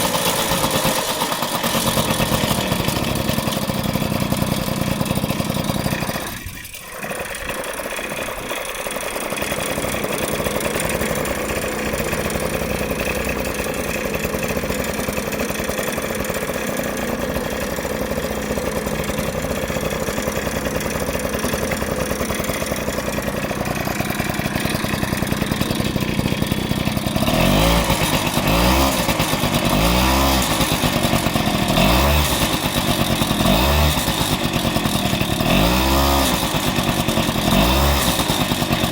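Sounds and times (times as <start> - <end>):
clicking and rattling from engine: 0.0 - 38.9
scooter engine revving: 0.0 - 38.9.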